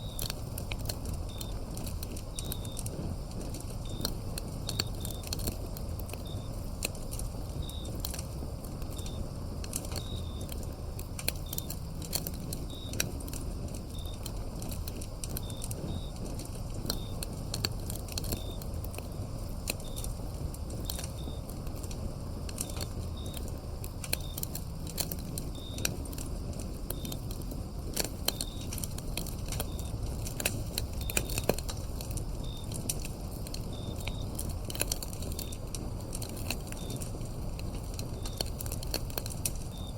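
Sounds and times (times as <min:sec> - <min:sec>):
crickets chirping: 0:00.0 - 0:39.9
firewood crackling: 0:00.0 - 0:39.9.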